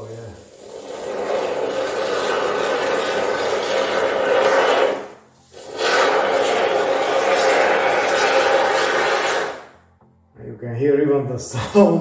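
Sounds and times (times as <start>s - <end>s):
aerosol foam spraying hiss: 0.0s - 9.8s.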